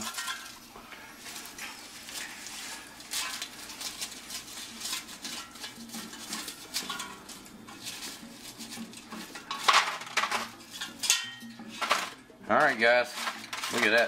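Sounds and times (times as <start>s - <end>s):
food tumbling into foil pan: 0.0s - 14.0s
utensil clinking in metal basket: 0.0s - 14.0s.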